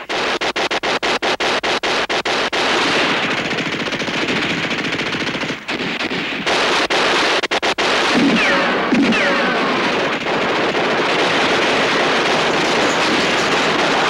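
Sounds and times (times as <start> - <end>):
automatic machine-gun fire: 0.0 - 14.0.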